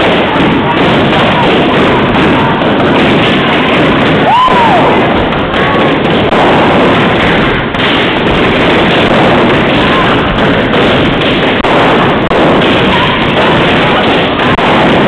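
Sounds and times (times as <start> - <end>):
balloons popping: 0.0 - 15.0.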